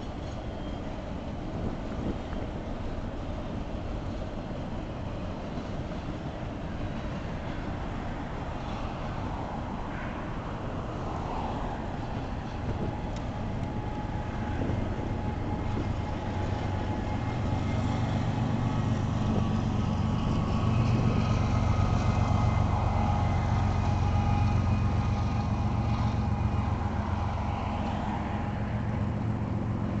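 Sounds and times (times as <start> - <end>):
diesel locomotive engine hum: 0.0 - 30.0
train wheels on rails: 0.0 - 30.0.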